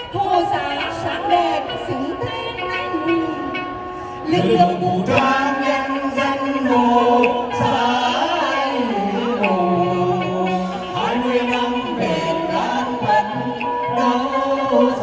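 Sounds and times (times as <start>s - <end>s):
singers performing folk song: 0.0s - 15.0s.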